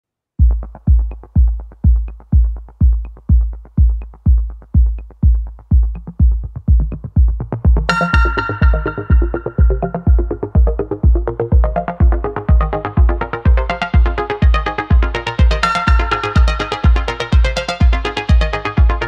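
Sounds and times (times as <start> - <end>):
steady kick drum: 0.4 - 19.0
synth chords: 0.4 - 19.0.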